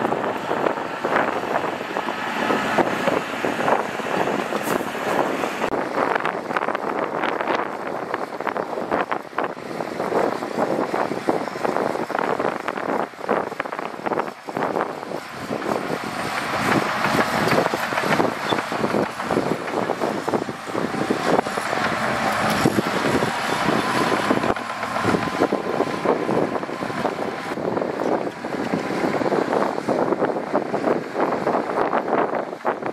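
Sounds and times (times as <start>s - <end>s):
diesel engine running: 0.0s - 32.9s
machinery rattle and clatter: 0.0s - 32.9s.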